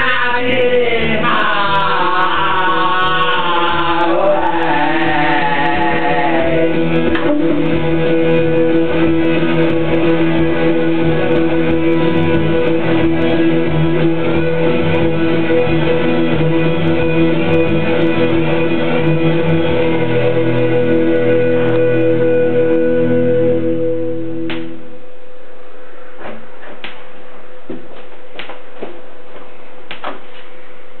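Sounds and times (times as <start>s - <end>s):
karaoke backing track with guitar: 0.0s - 24.9s.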